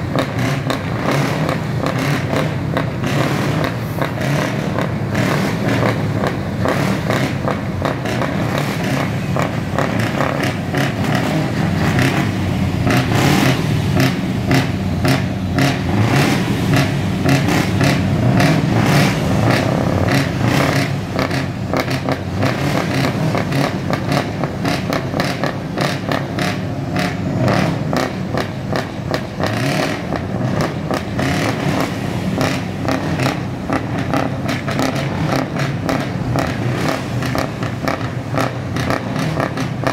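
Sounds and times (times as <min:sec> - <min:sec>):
diesel truck engine revving: 0:00.0 - 0:39.9
exhaust crackle: 0:00.0 - 0:39.9.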